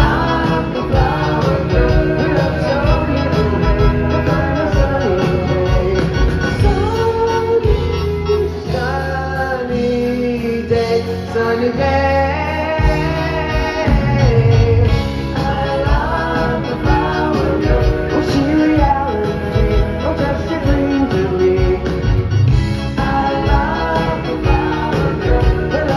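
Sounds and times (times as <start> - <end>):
live pop band playing: 0.0 - 25.9
voices singing in harmony: 0.0 - 25.9.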